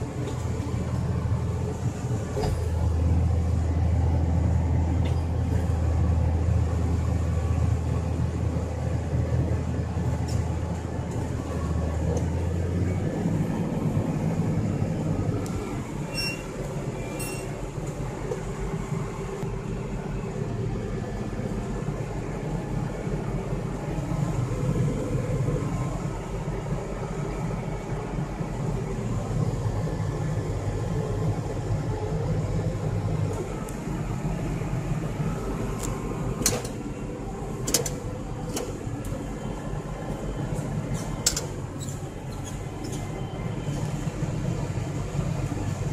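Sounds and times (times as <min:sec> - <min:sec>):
tractor diesel engine drone: 0:00.0 - 0:45.9.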